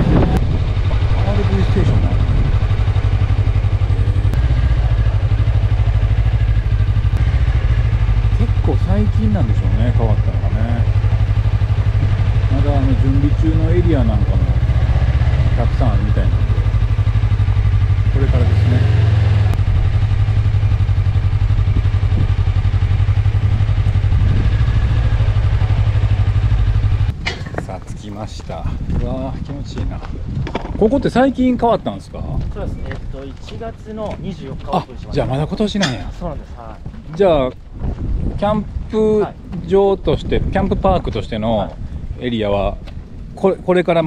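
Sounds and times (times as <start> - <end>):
motorcycle engine rumbling: 0.0 - 44.0.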